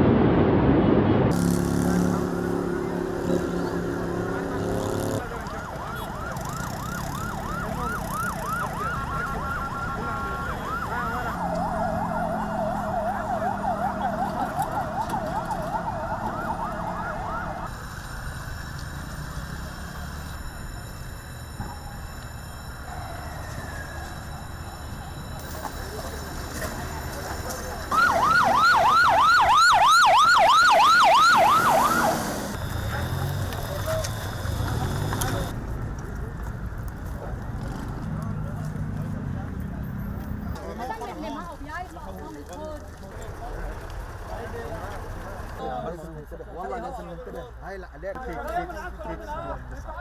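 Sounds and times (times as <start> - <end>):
emergency sirens wailing: 0.0 - 41.4
street noise: 0.0 - 50.0.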